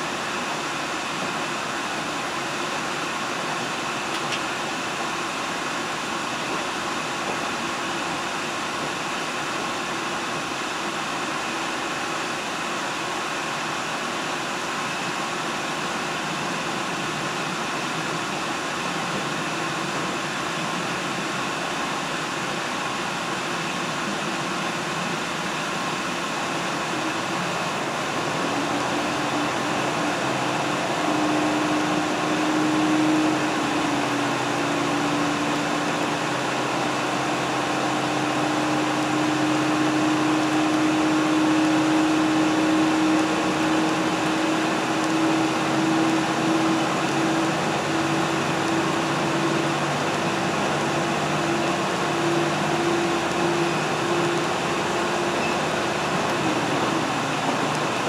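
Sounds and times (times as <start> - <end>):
diesel train rumbling: 0.0 - 58.0.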